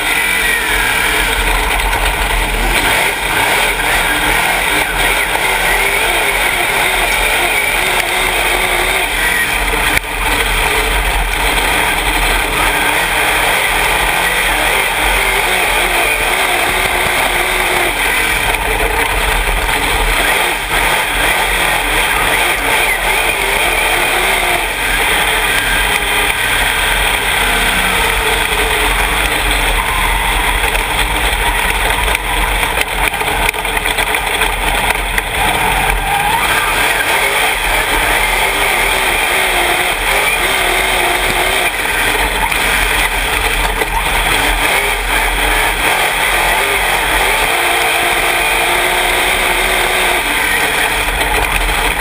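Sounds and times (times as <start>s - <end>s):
race car engine revving: 0.0s - 52.0s.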